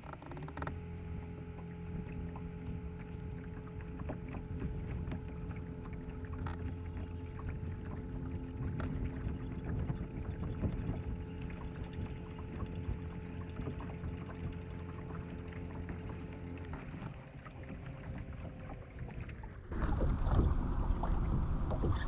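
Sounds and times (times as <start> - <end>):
boat motor humming: 0.0 - 22.0
water lapping against hull: 0.0 - 22.0.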